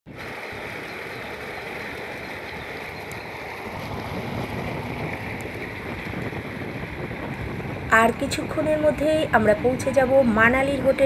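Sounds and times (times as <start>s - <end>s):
vehicle road and wind noise: 0.1s - 11.0s.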